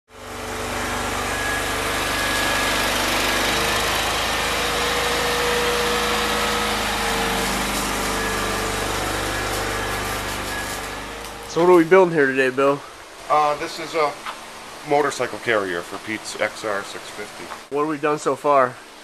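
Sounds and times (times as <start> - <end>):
shop machinery humming: 0.1 - 17.8.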